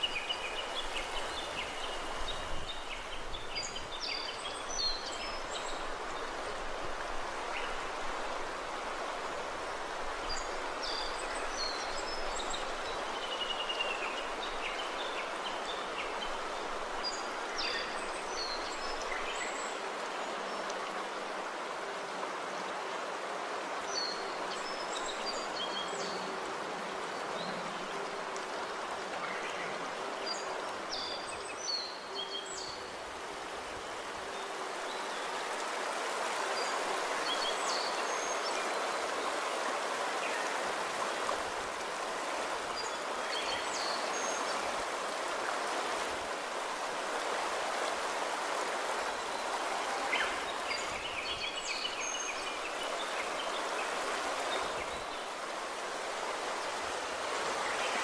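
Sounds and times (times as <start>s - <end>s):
stream flowing over pebbles: 0.0s - 58.0s.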